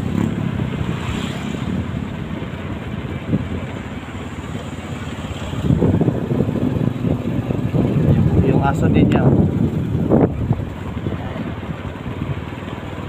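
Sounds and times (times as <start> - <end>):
small motorcycle engine running: 0.0 - 13.0
wind on microphone: 0.0 - 13.0.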